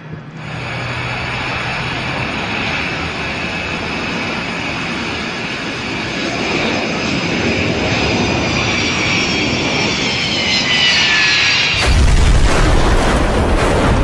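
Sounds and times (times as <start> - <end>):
airplane flying by: 0.0 - 14.0
high engine whine: 0.0 - 14.0.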